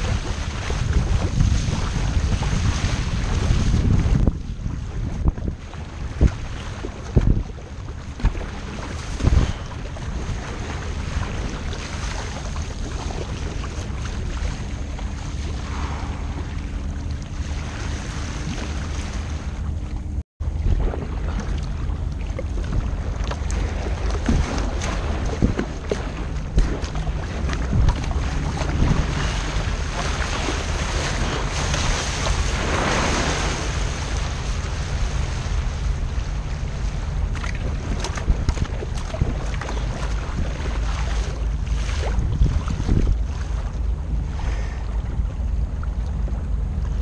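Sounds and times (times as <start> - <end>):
water splashing against kayak: 0.0 - 47.0
wind on microphone: 0.0 - 47.0.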